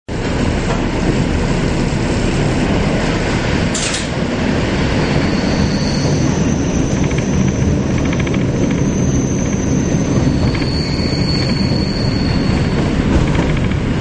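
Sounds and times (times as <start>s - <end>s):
rush of noise under bridge: 0.1s - 14.0s
train wheels rumbling on track: 0.1s - 14.0s.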